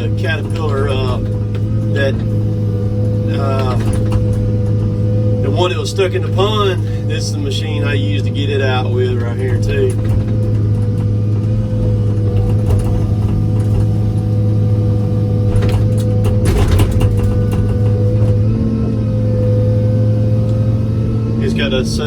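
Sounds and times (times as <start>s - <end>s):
clanks and rattles: 0.0s - 22.0s
excavator diesel engine running: 0.0s - 22.0s.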